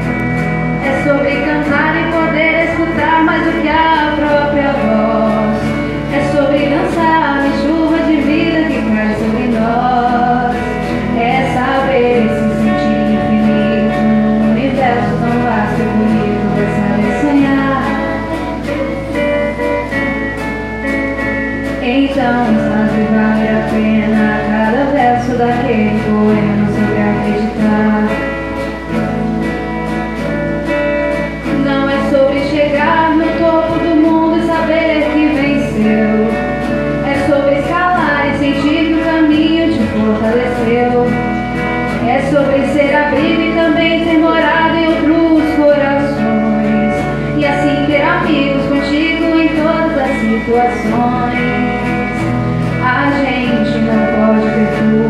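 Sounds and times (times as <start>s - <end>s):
person singing into microphone: 0.0s - 20.5s, 21.6s - 29.2s, 30.2s - 55.0s
strummed acoustic guitars: 0.0s - 55.0s.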